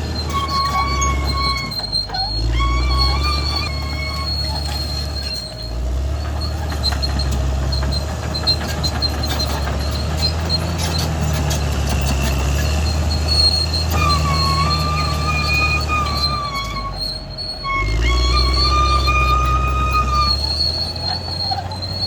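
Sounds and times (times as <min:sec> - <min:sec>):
diesel engine drone: 0:00.0 - 0:22.0
steel tracks squealing: 0:00.0 - 0:22.0.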